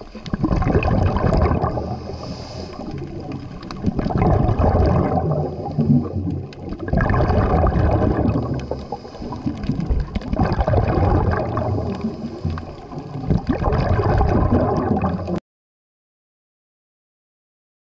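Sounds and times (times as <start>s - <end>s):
underwater bubbles gurgling: 0.0s - 15.4s.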